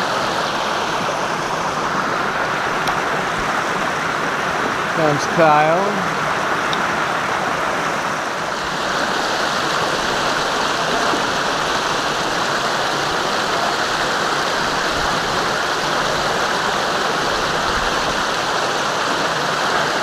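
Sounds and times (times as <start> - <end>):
creek rushing over boulders: 0.0 - 20.0.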